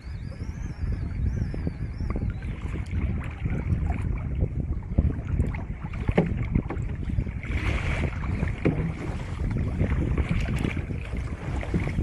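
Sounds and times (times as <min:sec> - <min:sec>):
water slapping kayak hull: 0:00.0 - 0:12.0
wind buffeting microphone: 0:00.0 - 0:12.0.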